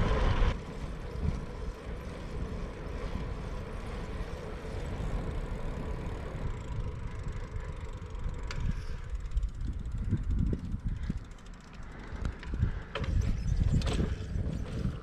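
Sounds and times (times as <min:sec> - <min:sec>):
bike tyres rolling on asphalt: 0:00.0 - 0:15.0
wind buffeting microphone: 0:00.0 - 0:15.0.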